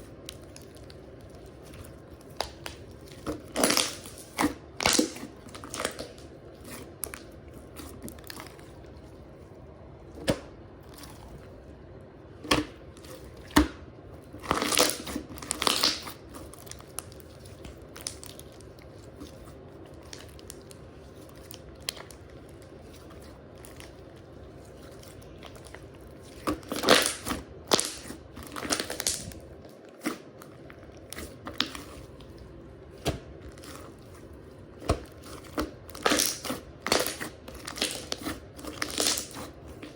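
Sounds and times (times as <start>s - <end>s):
slime crackling and squishing: 0.0s - 39.9s.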